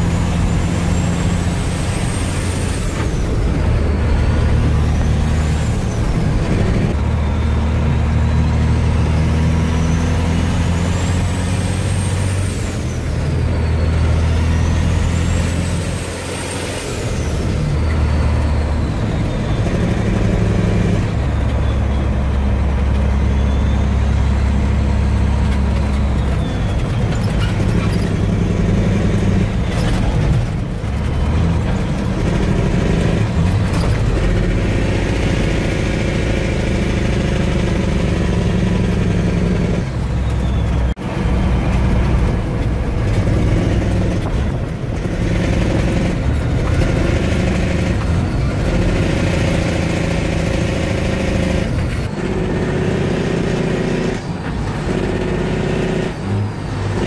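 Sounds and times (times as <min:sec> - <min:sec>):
truck engine running under load: 0:00.0 - 0:57.0.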